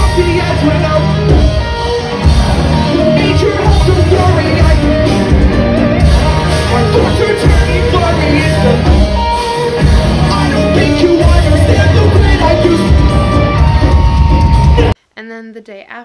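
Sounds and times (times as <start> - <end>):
person singing: 0.0 - 2.1, 2.7 - 15.0
live rock band playing: 0.0 - 15.0.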